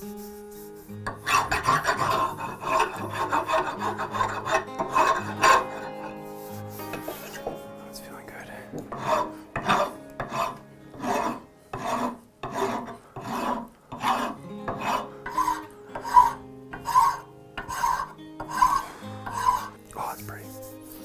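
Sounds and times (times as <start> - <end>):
file scraping wood: 0.0 - 7.7, 8.7 - 21.0.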